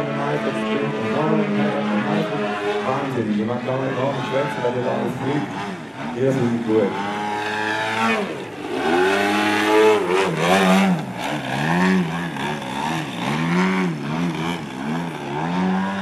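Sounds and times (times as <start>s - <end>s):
model airplane engine revving: 0.0s - 16.0s.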